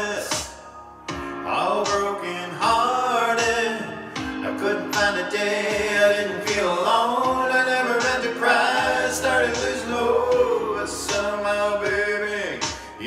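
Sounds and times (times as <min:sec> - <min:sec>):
man singing a slow ballad: 0:00.0 - 0:13.0
musical backing: 0:00.0 - 0:13.0.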